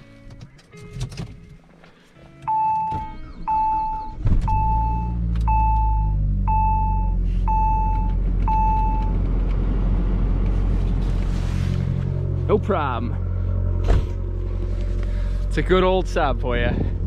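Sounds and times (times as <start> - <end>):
car engine cranking and idling: 0.0 - 17.0.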